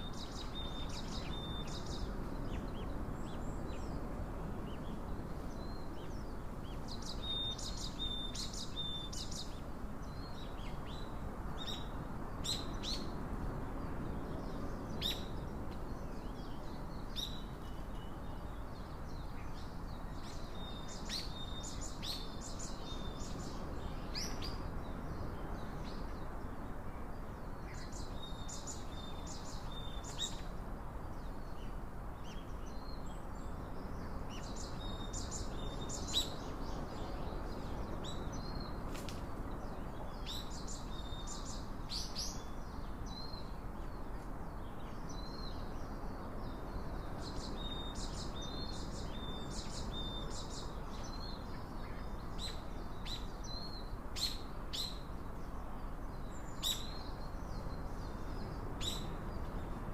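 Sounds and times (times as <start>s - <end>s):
low background hiss: 0.0s - 59.9s
small birds chirping: 0.0s - 59.9s.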